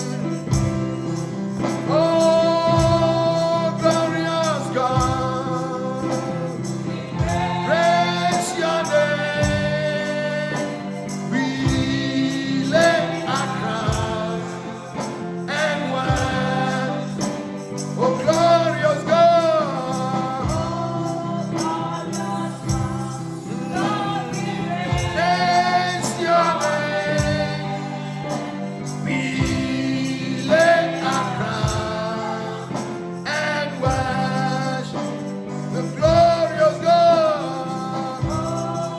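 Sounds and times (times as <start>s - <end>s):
gospel singing with band: 0.0s - 38.9s.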